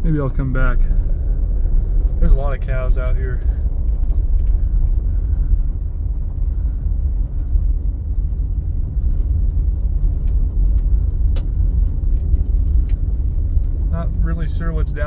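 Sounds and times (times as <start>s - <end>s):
car driving on gravel road: 0.0s - 15.0s.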